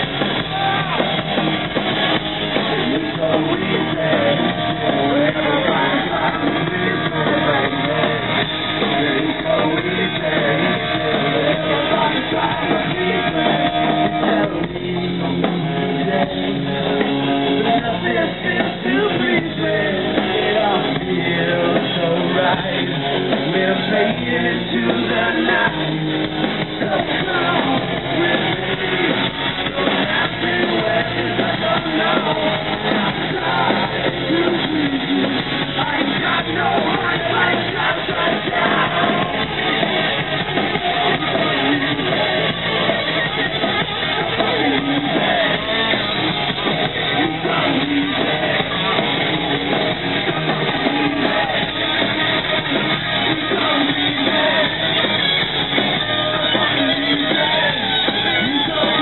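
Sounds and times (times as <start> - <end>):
muffled live hard rock band: 0.0 - 59.0.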